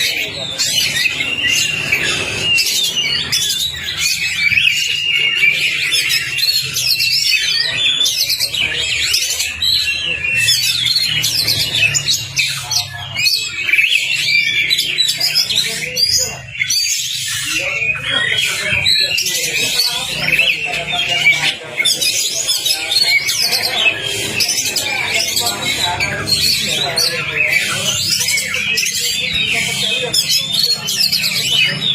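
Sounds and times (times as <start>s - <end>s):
bird singing chattering notes: 0.0s - 31.9s.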